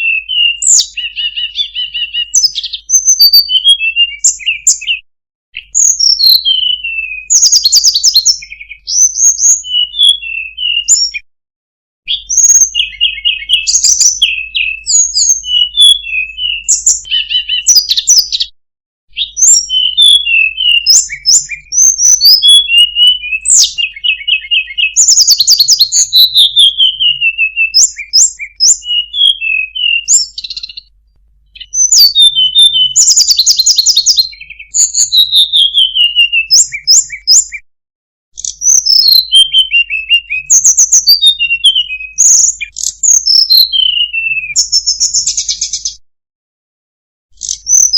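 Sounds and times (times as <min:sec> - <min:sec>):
flycatcher singing high chirps: 0:00.0 - 0:05.0, 0:05.6 - 0:11.2, 0:12.1 - 0:18.4, 0:19.1 - 0:30.9, 0:31.6 - 0:37.6, 0:38.4 - 0:45.9, 0:47.4 - 0:47.9.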